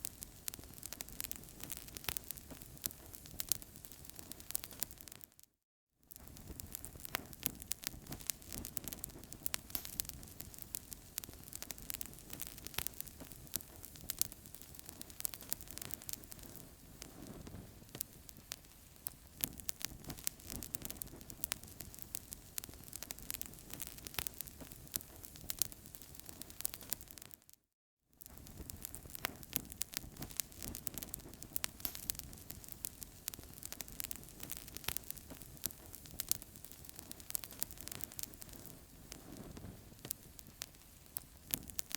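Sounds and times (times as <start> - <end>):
fire crackling and popping: 0.0 - 5.4, 6.1 - 27.6, 28.2 - 41.9.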